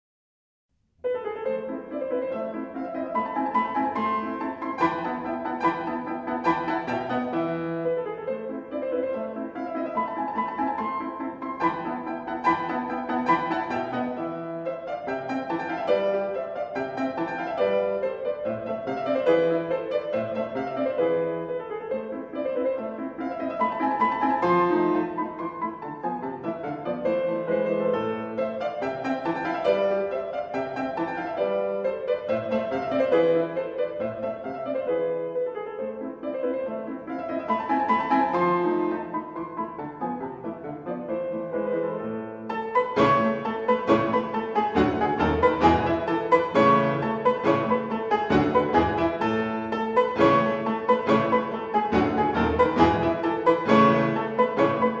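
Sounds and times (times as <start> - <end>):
classical piano music: 0.7 - 55.0.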